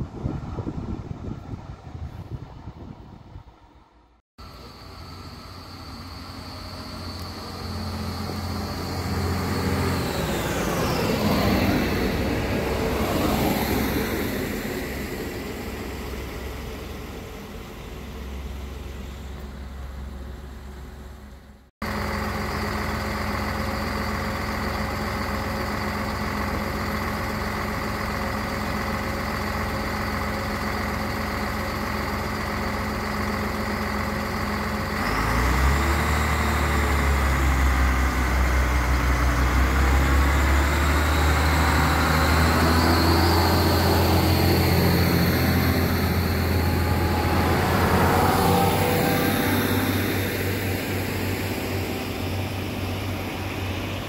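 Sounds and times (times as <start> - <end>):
diesel railcar engine idling: 0.0 - 54.0
diesel railcar passing: 0.0 - 54.0.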